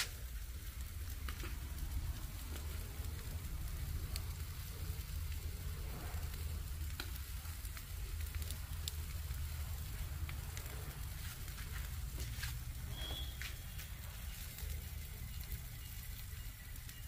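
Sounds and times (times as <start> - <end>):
steady low rumble: 0.0 - 16.9
chicken sizzling on a grill: 0.0 - 17.0.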